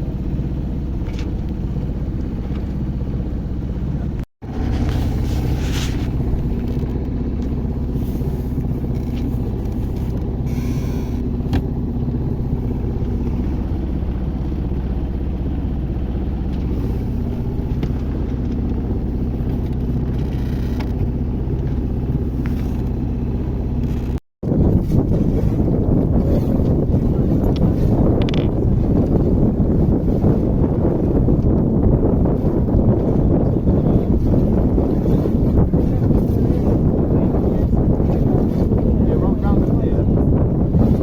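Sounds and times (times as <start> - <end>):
engine droning steadily: 0.0 - 41.0
wind noise on microphone: 0.0 - 41.0.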